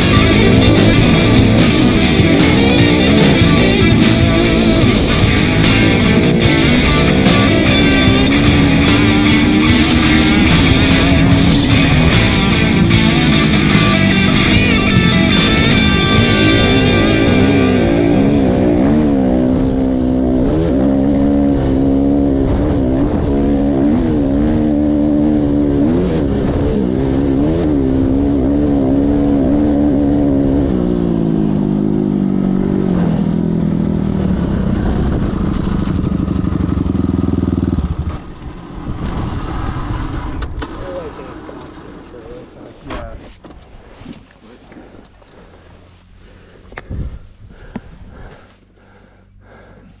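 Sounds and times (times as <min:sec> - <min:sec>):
dirt bike engine revving: 0:00.0 - 0:43.1.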